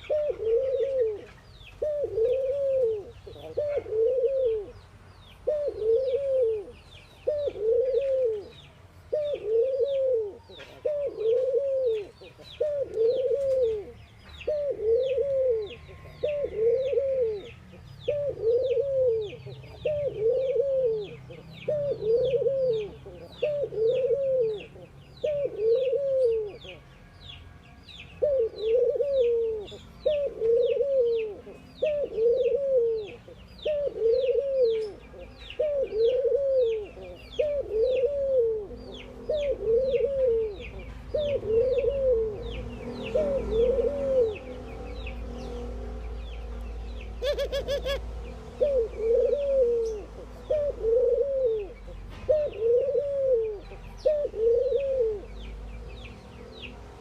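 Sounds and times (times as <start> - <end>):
doves cooing: 0.0 - 4.8, 5.4 - 26.8, 28.2 - 46.4, 47.0 - 55.5.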